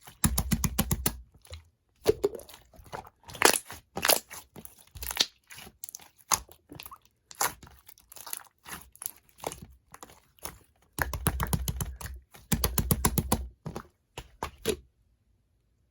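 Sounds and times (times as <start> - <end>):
slime squished by hand: 0.0 - 14.8.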